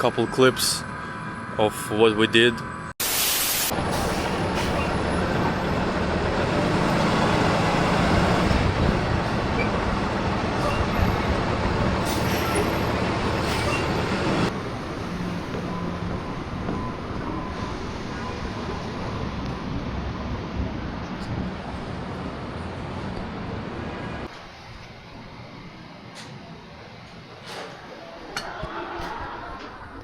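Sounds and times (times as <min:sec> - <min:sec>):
road noise: 0:00.0 - 0:28.4
heavy vehicle engine: 0:03.7 - 0:27.9.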